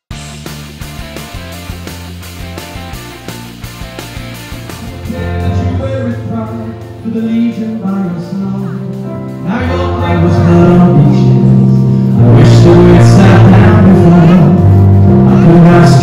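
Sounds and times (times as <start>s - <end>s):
music with singing voice: 0.1s - 16.0s.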